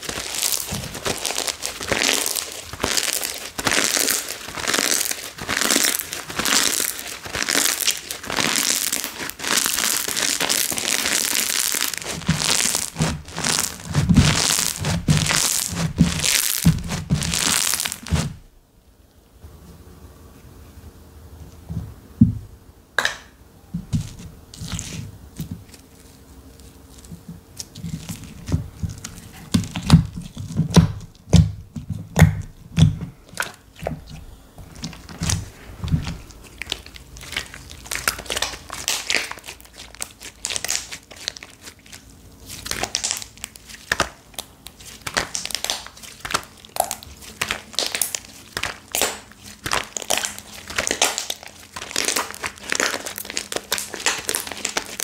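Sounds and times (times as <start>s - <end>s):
slime crackling and crinkling: 0.0s - 18.5s, 23.9s - 55.0s
slime squishing: 0.0s - 18.5s, 26.8s - 55.0s.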